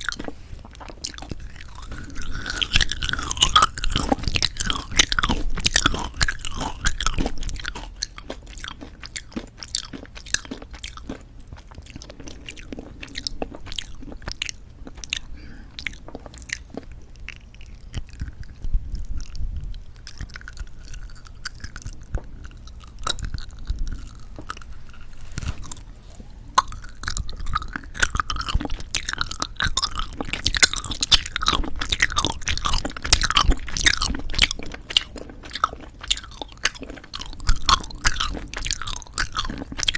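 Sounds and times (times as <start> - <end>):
chewing jelly candies: 0.0 - 39.9.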